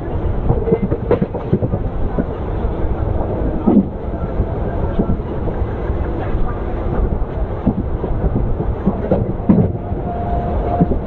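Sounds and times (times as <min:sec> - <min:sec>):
train wheels on track: 0:00.0 - 0:11.0.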